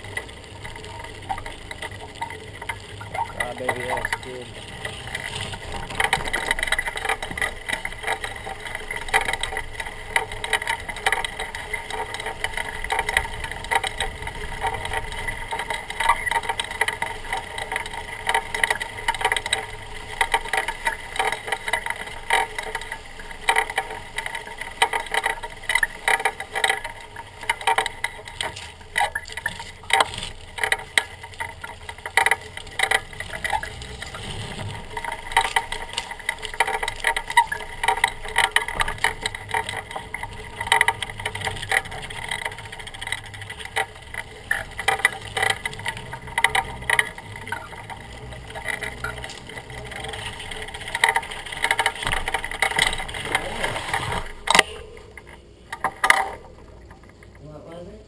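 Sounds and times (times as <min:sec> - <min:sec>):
bike clattering over bumps: 0:00.0 - 0:57.6
bike tyre humming: 0:00.0 - 0:58.0.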